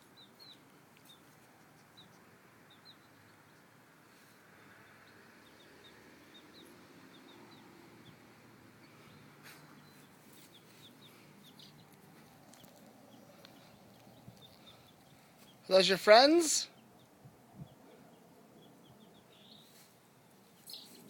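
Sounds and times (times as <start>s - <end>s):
baby chicks peeping: 0.0s - 21.0s.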